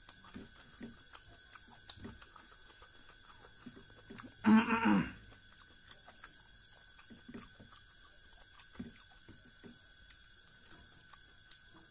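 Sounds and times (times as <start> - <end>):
person chewing: 0.0 - 11.9.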